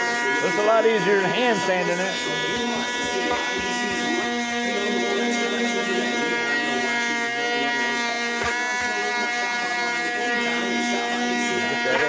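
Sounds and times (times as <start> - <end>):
orbit sander sanding wood: 0.0 - 12.0.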